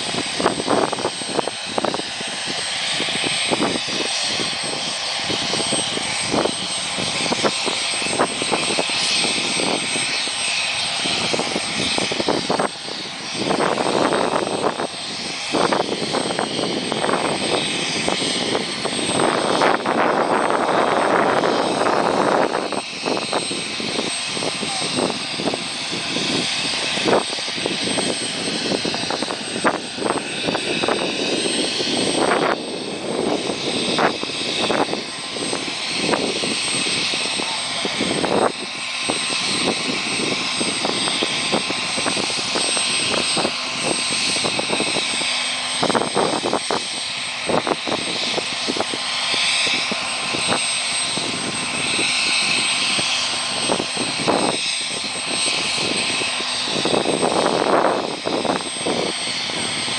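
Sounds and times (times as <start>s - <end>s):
helicopter engines whining: 0.0s - 59.9s
helicopter rotor rushing: 0.0s - 59.9s
wind buffeting microphone: 0.0s - 59.9s.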